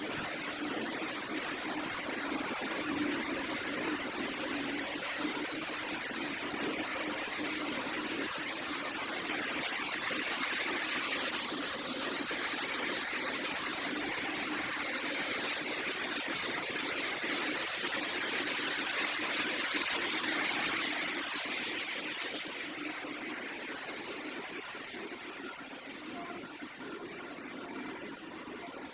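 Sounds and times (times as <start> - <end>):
rush of flowing slurry: 0.0 - 28.9.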